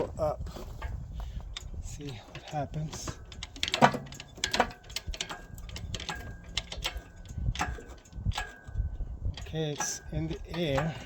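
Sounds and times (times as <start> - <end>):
metallic clicks and knocks: 0.0 - 11.0.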